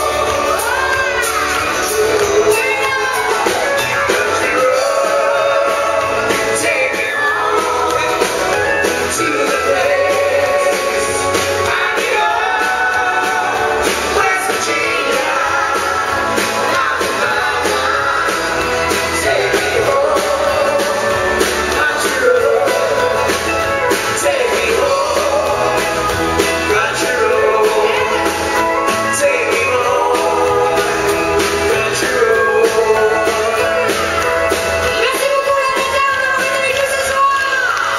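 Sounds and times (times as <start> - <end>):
acoustic guitar: 0.0 - 37.9
drums: 0.0 - 37.9
singers singing together: 0.0 - 37.9.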